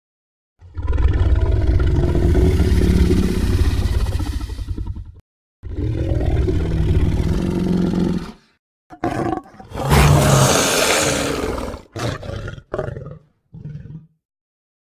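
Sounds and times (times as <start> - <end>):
creature roaring: 0.6 - 13.2.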